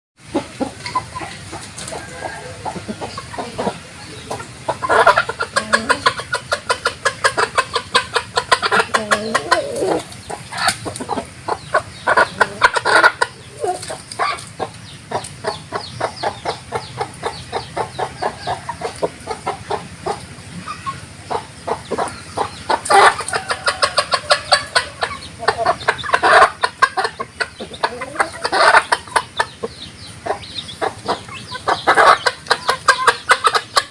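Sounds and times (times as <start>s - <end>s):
chickens clucking: 0.2s - 33.9s.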